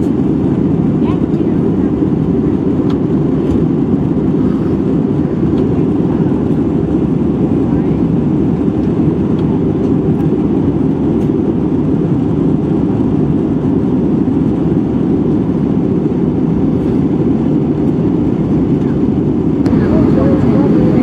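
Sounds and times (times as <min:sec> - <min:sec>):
aircraft cabin engine roar: 0:00.0 - 0:21.0.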